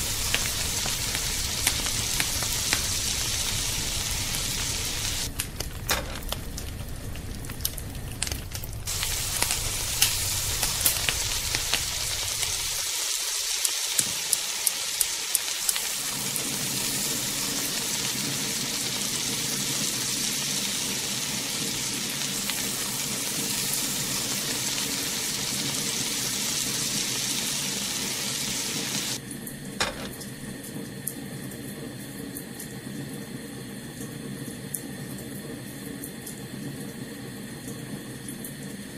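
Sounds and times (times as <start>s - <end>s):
chicken deep-frying in oil: 0.0s - 38.9s.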